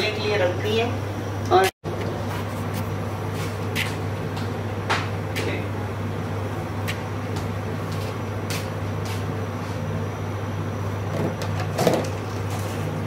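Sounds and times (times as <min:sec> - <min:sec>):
induction cooktop hum: 0:00.0 - 0:13.0.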